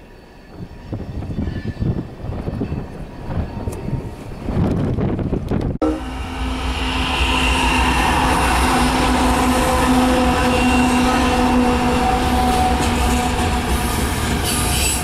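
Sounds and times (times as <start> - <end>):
diesel locomotive engine rumble: 0.5 - 15.0.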